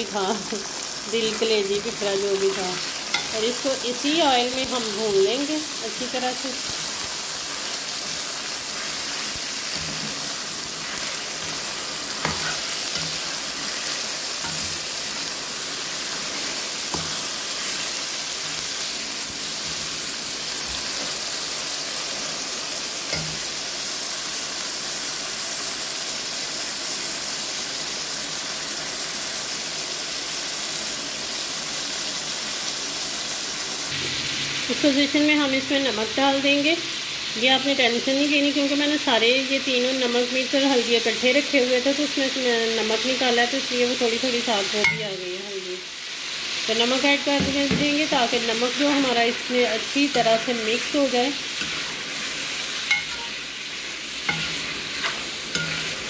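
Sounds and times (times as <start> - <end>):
offal sizzling in hot oil: 0.0 - 56.0.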